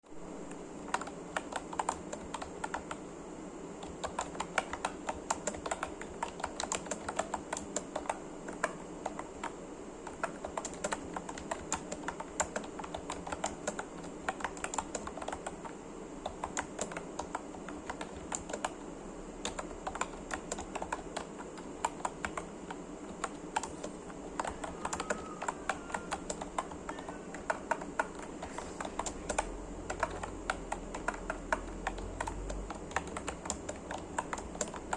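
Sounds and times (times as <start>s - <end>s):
steady low hum: 0.0s - 34.9s
keyboard typing: 0.4s - 3.0s, 3.8s - 34.9s.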